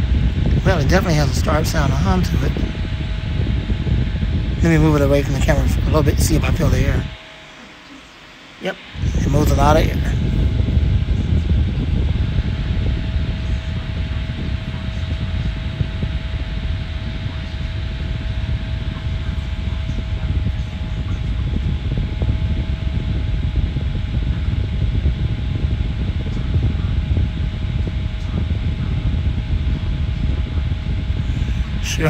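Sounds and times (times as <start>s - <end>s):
desk fan air rush: 0.0s - 32.0s.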